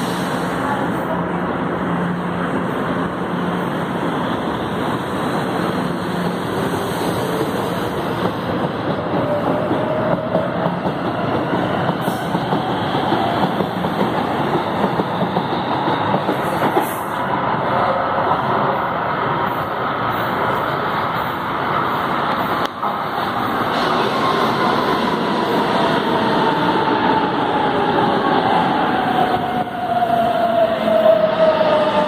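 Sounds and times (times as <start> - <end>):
rushing train noise: 0.0 - 32.0.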